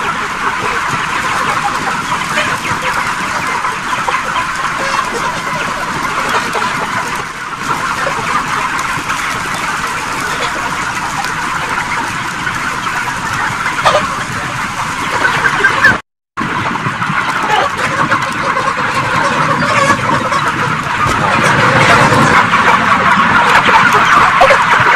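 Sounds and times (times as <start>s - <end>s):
chickens clucking and peeping: 0.0s - 24.9s.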